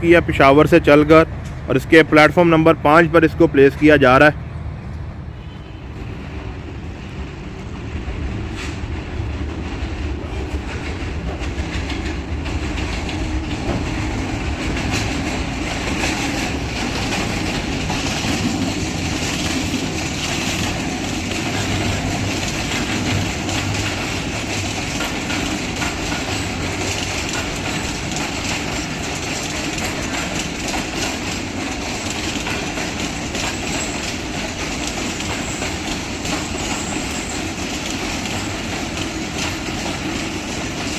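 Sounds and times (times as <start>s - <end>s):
train wheels clacking: 5.4s - 40.9s.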